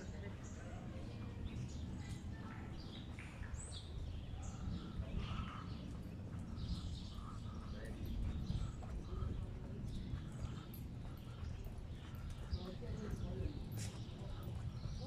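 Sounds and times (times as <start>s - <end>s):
low city rumble: 0.0s - 15.0s
small birds chirping: 0.0s - 15.0s.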